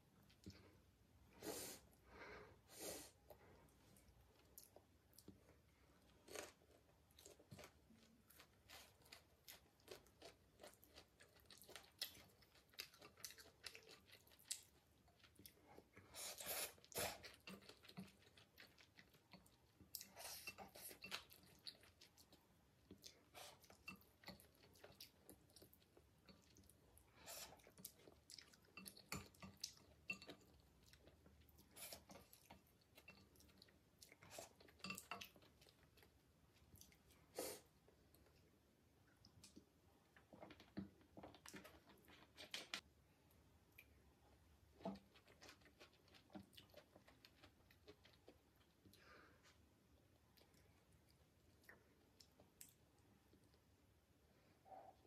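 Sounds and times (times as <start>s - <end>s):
chewing noodles with wet mouth clicks: 4.0s - 42.8s, 44.6s - 49.0s, 49.8s - 54.0s.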